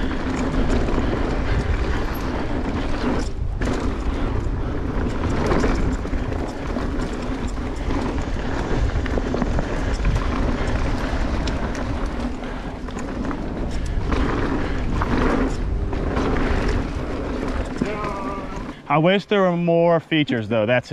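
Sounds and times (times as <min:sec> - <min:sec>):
wind buffeting microphone: 0:00.0 - 0:18.9
bike clicks and rattles: 0:00.0 - 0:19.7
bike tyres rolling on dirt: 0:00.0 - 0:20.9.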